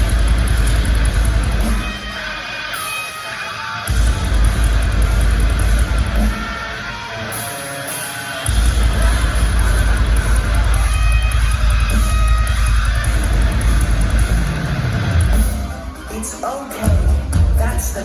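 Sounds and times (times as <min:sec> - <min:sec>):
electric guitar: 0:00.0 - 0:18.0
live heavy metal music: 0:00.0 - 0:18.0.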